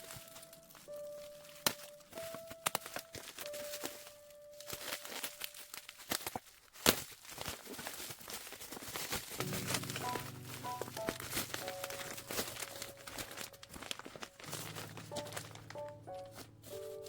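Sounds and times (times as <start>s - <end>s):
plastic and cardboard crinkling: 0.0s - 17.0s.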